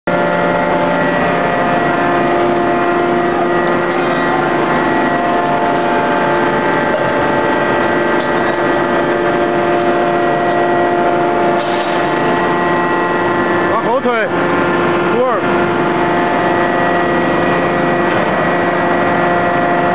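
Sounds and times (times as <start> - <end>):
machinery drone: 0.0 - 19.9.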